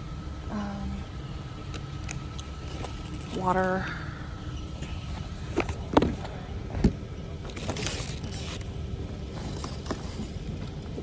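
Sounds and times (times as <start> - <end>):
store hum and chatter: 0.0 - 11.0.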